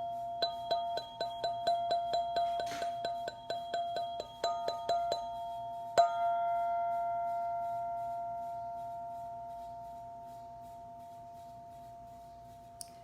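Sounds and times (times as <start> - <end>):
tube chime ringing: 0.0 - 12.5.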